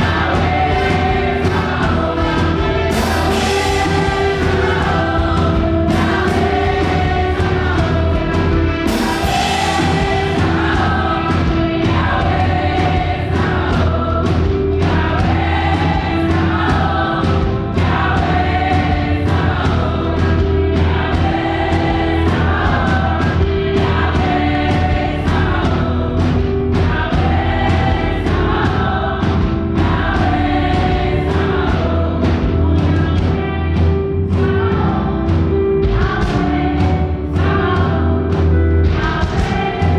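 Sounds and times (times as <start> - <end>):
band with steady bass and beat: 0.0 - 39.9
group of voices singing: 0.0 - 39.9.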